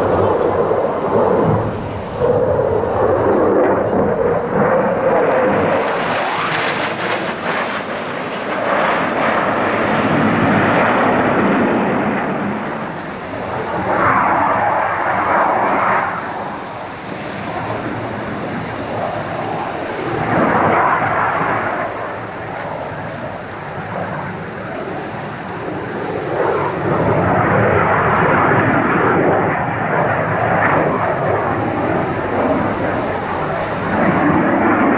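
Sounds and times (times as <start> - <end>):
aircraft flying past: 0.0 - 34.9.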